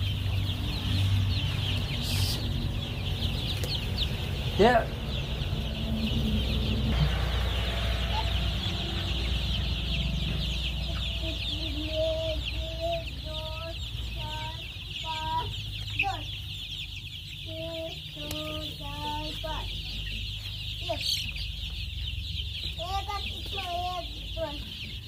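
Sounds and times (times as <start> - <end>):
chicks cheeping: 0.0 - 25.0.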